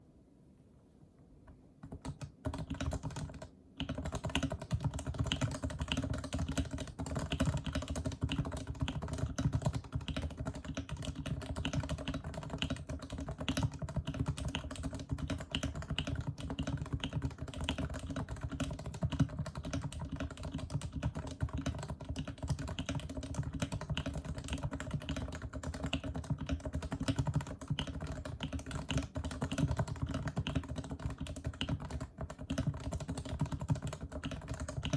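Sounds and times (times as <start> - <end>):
fast keyboard typing: 1.8 - 34.9.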